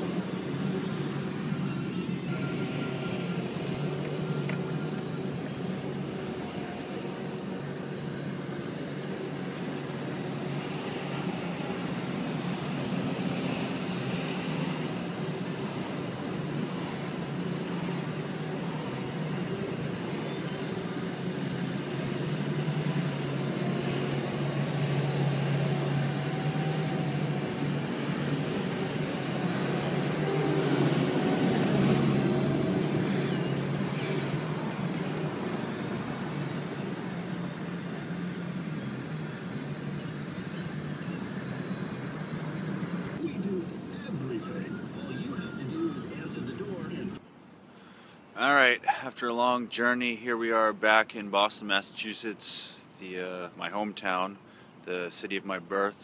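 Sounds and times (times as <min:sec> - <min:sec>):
vehicle engine and road rumble: 0:00.0 - 0:51.6.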